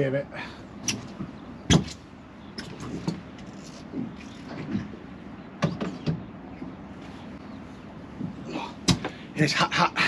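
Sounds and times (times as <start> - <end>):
rumble of wind and water: 0.0 - 10.0.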